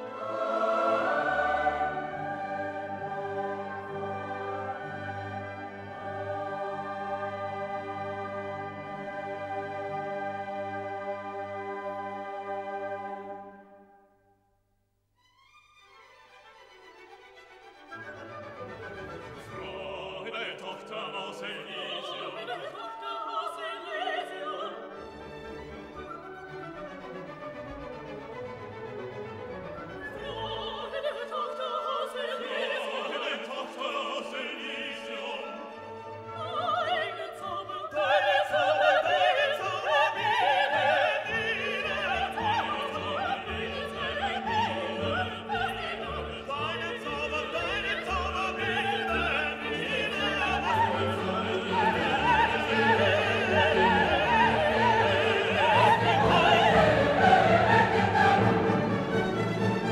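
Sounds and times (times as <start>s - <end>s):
operatic singing: 0.0s - 13.7s, 18.8s - 25.8s, 29.8s - 59.9s
orchestral classical music: 0.0s - 14.4s, 15.2s - 59.9s.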